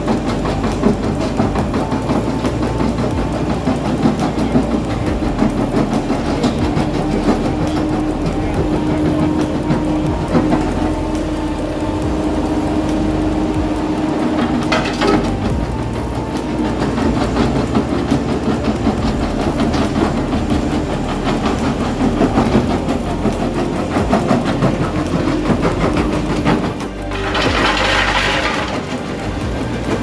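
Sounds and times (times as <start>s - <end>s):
crusher bucket crunching concrete: 0.0s - 30.0s
diesel engine running under load: 0.0s - 30.0s
gritty rush of falling material: 0.0s - 30.0s.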